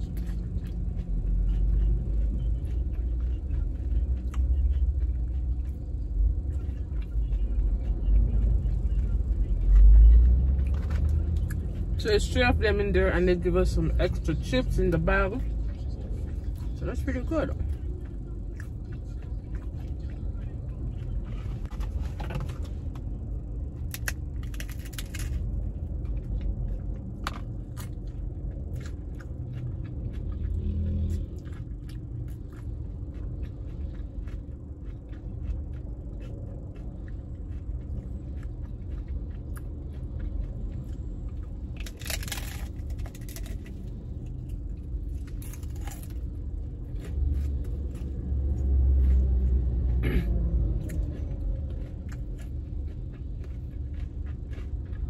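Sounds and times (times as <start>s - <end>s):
crunching and chewing food: 0.0s - 55.0s.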